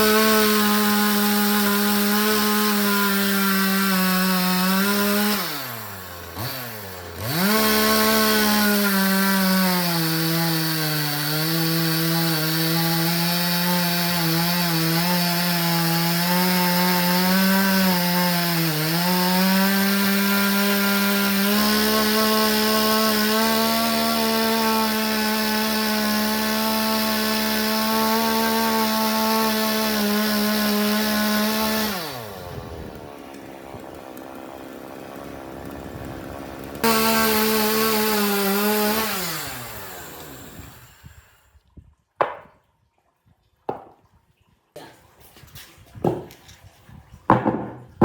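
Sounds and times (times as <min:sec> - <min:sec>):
chainsaw revving: 0:00.0 - 0:41.5.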